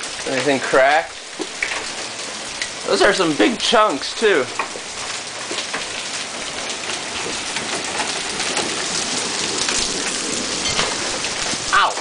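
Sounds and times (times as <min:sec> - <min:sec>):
hail striking hard surfaces: 0:00.0 - 0:12.0.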